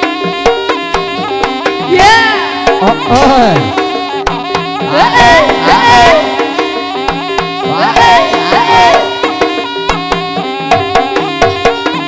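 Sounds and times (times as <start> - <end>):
high wavering sliding melody: 0.0 - 12.0.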